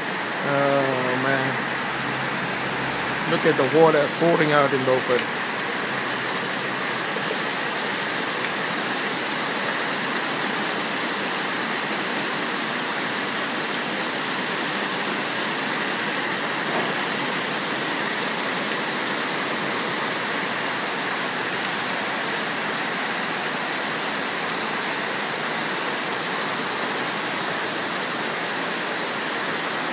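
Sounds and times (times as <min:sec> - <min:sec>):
heavy rain and hail: 0:00.0 - 0:29.9.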